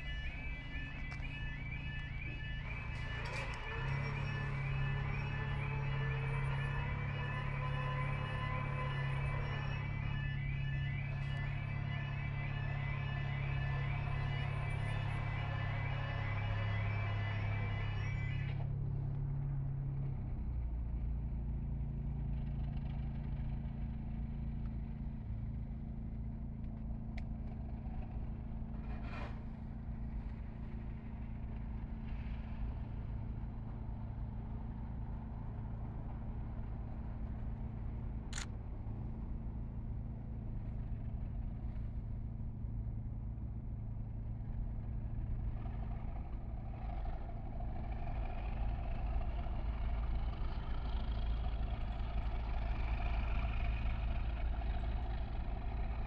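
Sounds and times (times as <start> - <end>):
diesel locomotives idling: 0.0 - 56.0.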